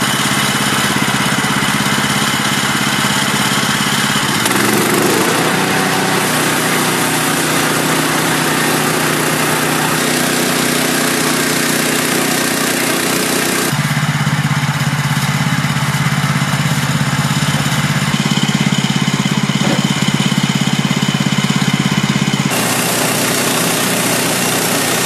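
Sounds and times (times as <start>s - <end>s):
small gasoline engine running: 0.0s - 25.0s.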